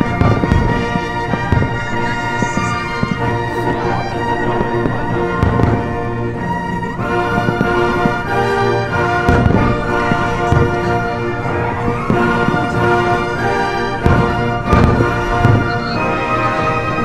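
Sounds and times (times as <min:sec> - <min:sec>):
brass: 0:00.0 - 0:17.0
orchestral music: 0:00.0 - 0:17.0
timpani: 0:00.0 - 0:17.0.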